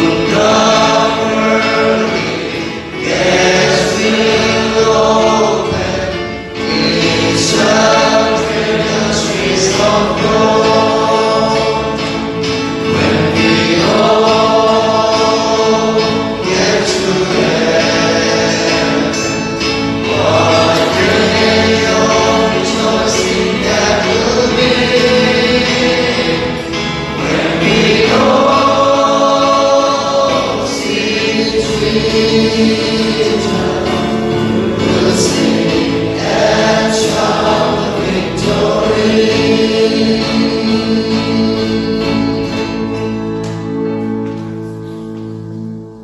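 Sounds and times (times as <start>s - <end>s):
choir singing gospel: 0.0s - 46.0s.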